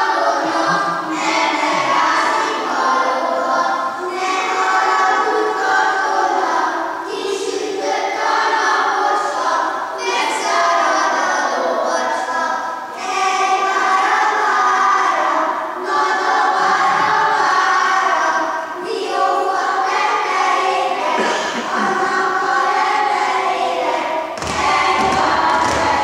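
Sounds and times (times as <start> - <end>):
children singing in unison: 0.0 - 26.0.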